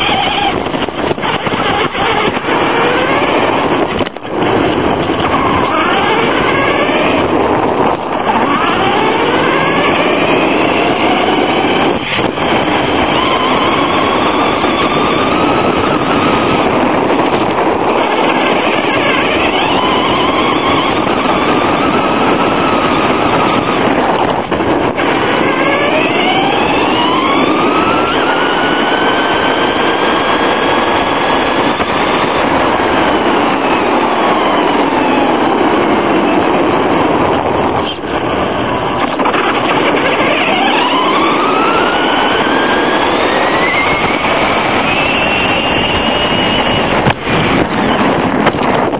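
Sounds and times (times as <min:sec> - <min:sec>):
electric motor whine: 0:00.0 - 0:48.9
gear and tyre noise: 0:00.0 - 0:48.9.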